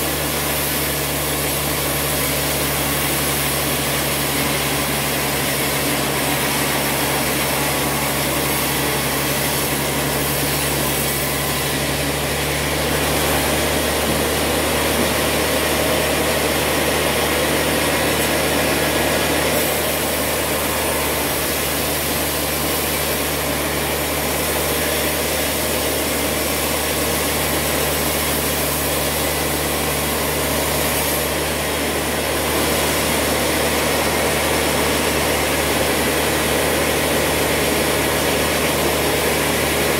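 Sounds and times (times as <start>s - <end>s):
band saw cutting timber: 0.0s - 39.9s.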